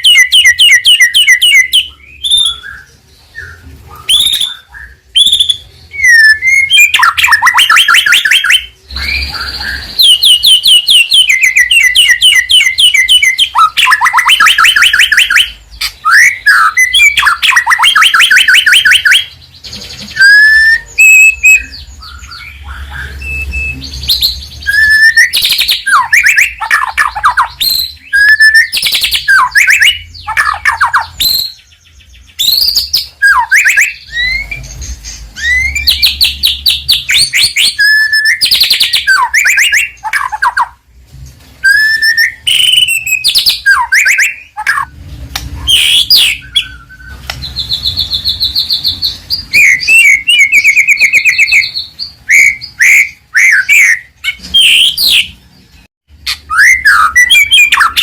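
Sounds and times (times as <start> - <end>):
songbird whistles and trills: 0.0 - 40.8, 41.6 - 58.0.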